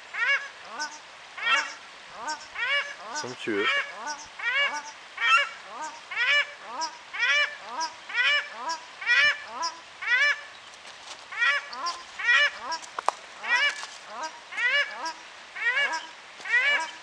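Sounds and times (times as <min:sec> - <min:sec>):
ducks honking: 0:00.2 - 0:10.5, 0:11.3 - 0:17.0.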